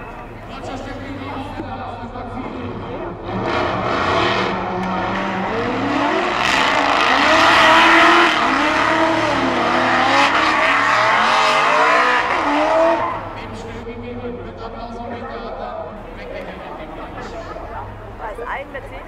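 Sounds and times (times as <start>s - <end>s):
car engine revving: 0.2s - 19.0s.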